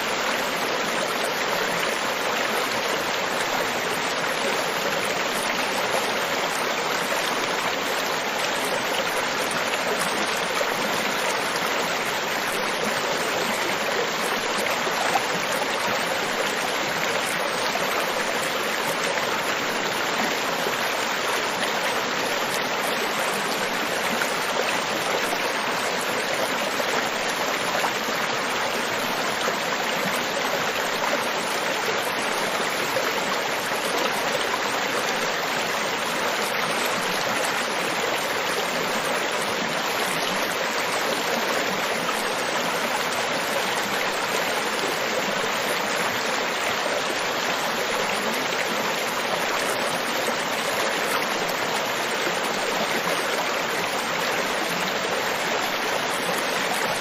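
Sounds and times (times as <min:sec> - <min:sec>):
rushing water on beach: 0:00.0 - 0:57.0.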